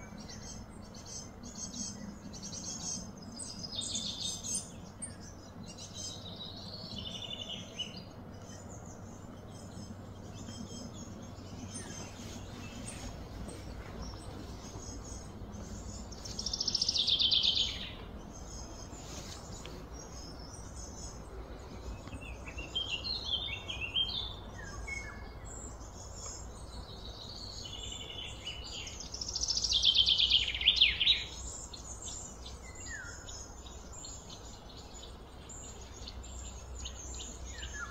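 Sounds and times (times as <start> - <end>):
birds chirping: 0.0 - 37.9
low background hum: 0.0 - 37.9.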